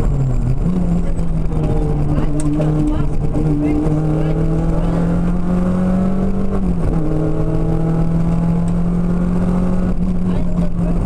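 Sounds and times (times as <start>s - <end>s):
car engine pulling hard: 0.0s - 11.0s
road noise inside car: 0.0s - 11.0s.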